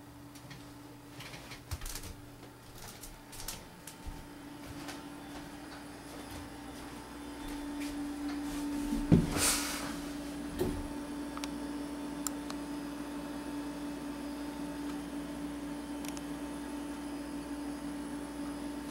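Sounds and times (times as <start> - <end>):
computer equipment humming: 0.0 - 18.9.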